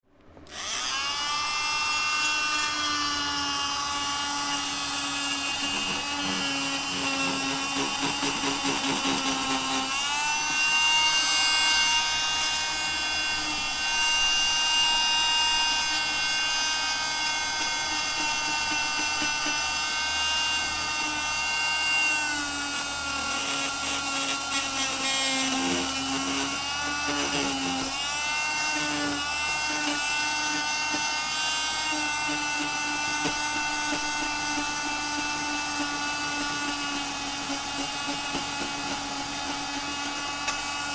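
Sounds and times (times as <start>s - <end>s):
oscillating saw whining: 0.4s - 40.9s.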